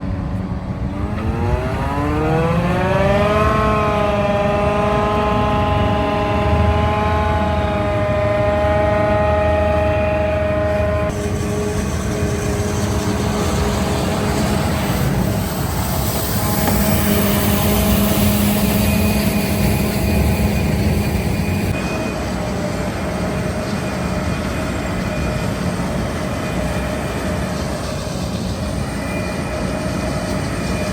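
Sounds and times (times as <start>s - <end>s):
harvester whining drone: 0.0s - 30.9s.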